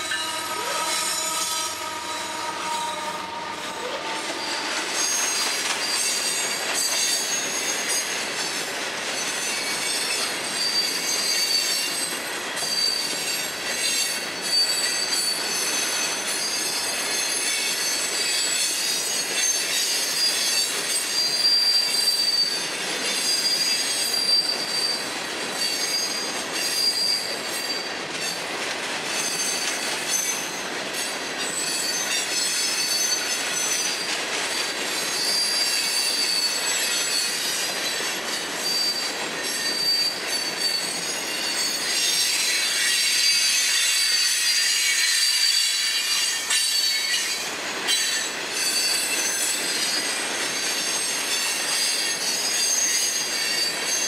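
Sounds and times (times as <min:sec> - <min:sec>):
steel wheels squealing: 0:00.0 - 0:54.0.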